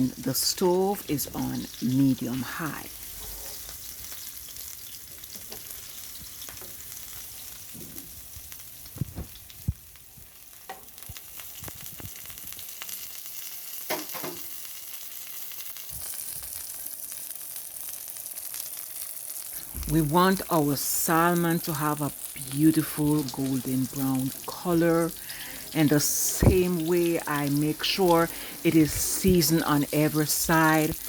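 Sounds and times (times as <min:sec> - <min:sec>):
fish sizzling in a frying pan: 0:00.0 - 0:31.0.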